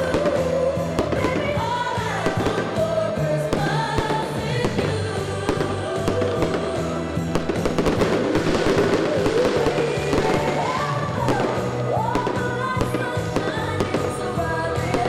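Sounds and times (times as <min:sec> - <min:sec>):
fireworks bangs: 0:00.0 - 0:15.0
music with singing: 0:00.0 - 0:15.0.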